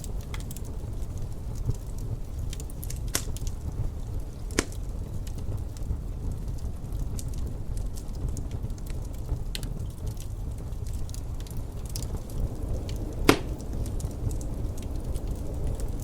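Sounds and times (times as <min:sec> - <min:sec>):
low rumble of wind: 0:00.0 - 0:16.0
wood fire crackling: 0:00.0 - 0:16.0.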